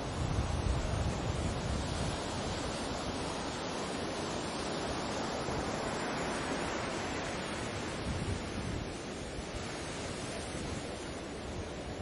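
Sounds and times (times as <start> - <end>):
small waves washing in: 0.0 - 12.0.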